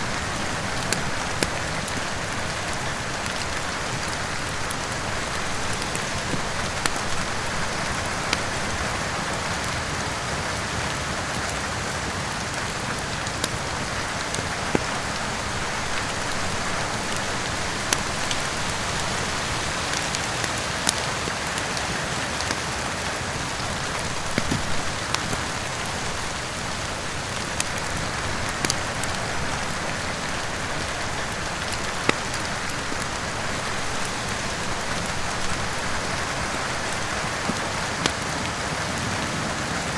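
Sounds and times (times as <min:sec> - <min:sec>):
rain falling: 0:00.0 - 0:39.9
wood fire popping and crackling: 0:00.0 - 0:39.9.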